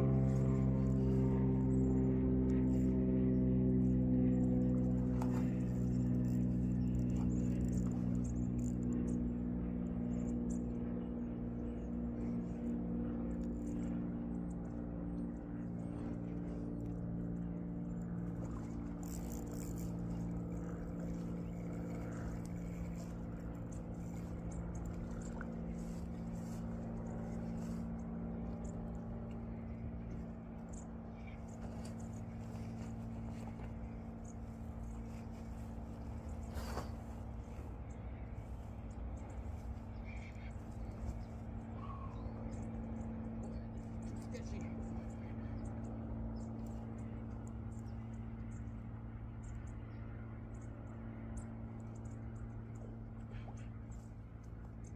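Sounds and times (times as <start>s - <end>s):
motor droning: 0.0s - 54.9s.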